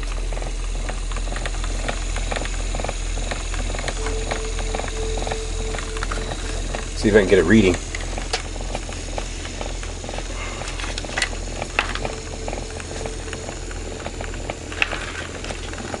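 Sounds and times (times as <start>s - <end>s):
motor humming with rattle: 0.0s - 16.0s
thin whine: 0.0s - 16.0s.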